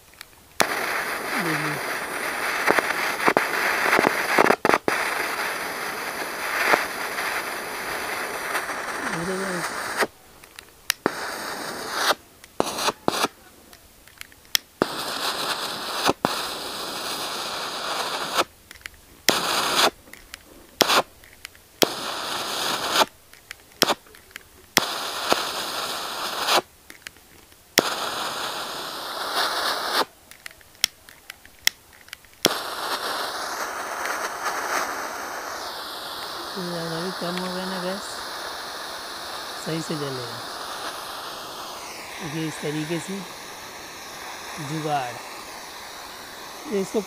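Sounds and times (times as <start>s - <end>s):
hissing crackling gas flame: 0.0s - 47.0s.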